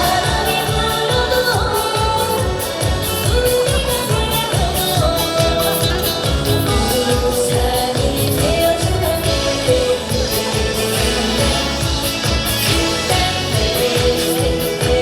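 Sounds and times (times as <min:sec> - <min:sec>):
woman singing over backing track: 0:00.0 - 0:15.0.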